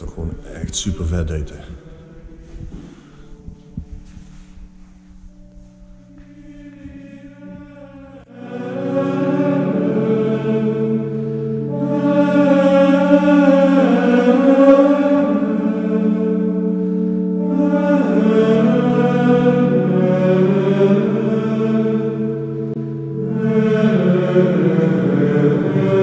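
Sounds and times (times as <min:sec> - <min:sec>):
slow choral music: 0:00.0 - 0:26.0.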